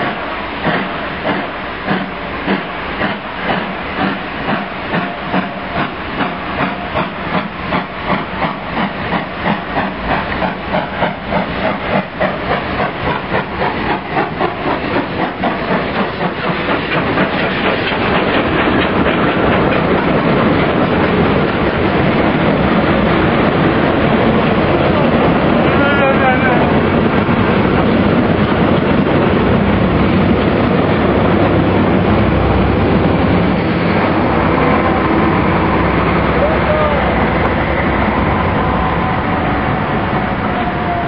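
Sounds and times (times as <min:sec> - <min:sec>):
steam hissing: 0:00.0 - 0:41.0
steam locomotive chuffing: 0:00.0 - 0:41.0
train carriages rumbling past: 0:00.0 - 0:41.0.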